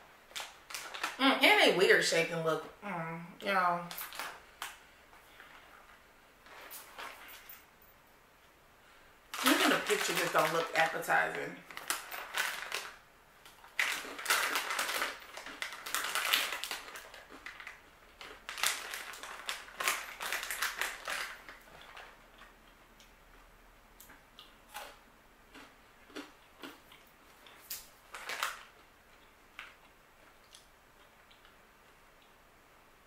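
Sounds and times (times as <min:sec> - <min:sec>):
crunching crackers: 0:00.2 - 0:01.2, 0:03.9 - 0:07.4, 0:09.3 - 0:32.4.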